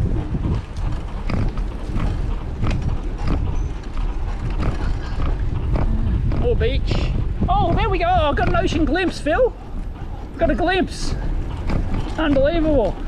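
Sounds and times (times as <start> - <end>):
bicycle rattling and clicking: 0.0 - 13.0
wind rumble on microphone: 0.0 - 13.0.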